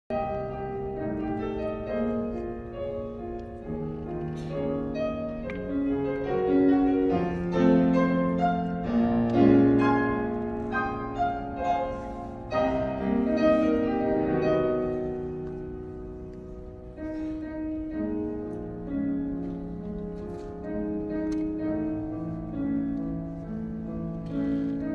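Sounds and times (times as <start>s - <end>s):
orchestra playing classical piece: 0.1s - 24.9s.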